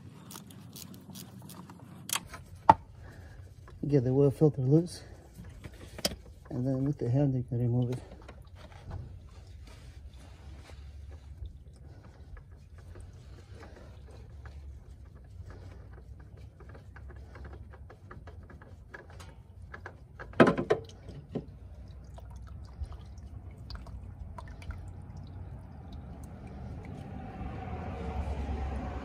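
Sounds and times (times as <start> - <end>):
oil trickling: 0.0 - 28.7
oil filter clicking and rubbing: 0.0 - 28.9.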